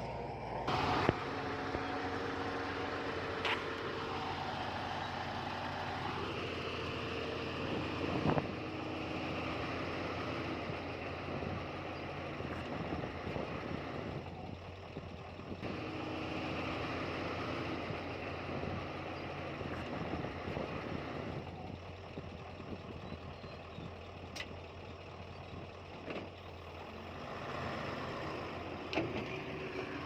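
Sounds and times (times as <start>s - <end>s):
diesel machinery running: 0.0s - 30.0s.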